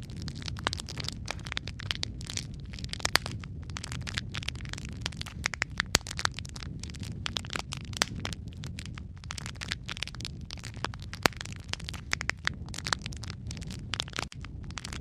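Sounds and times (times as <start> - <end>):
burning logs crackling and popping: 0.0 - 15.0
low rumble of flame: 0.0 - 15.0.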